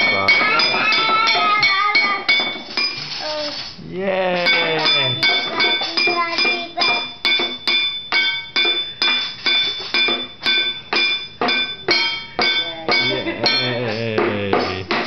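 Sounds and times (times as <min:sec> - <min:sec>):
wooden spoon drumming on metal pot: 0:00.0 - 0:03.1, 0:04.4 - 0:15.0.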